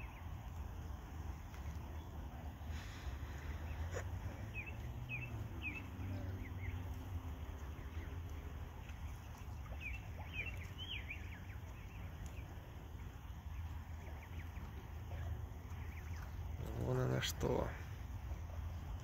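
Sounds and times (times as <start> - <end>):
goslings peeping: 0.0 - 19.0
low background rumble: 0.0 - 19.0.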